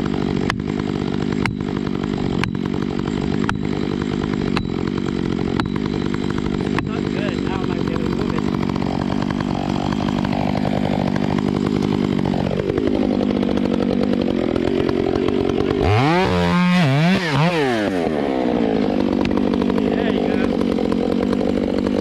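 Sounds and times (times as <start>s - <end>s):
chainsaw running under load: 0.0s - 22.0s.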